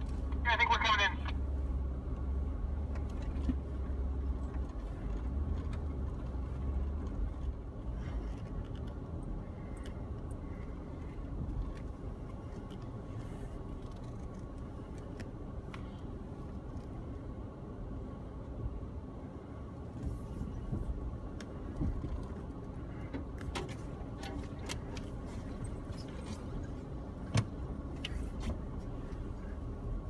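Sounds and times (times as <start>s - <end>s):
vehicle engine and tyre rumble: 0.0s - 30.0s.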